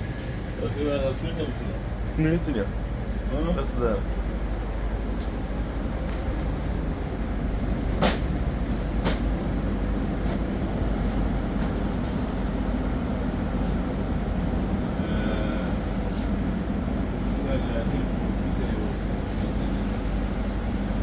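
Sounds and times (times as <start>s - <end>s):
motor vehicle engine rumble: 0.0s - 21.0s.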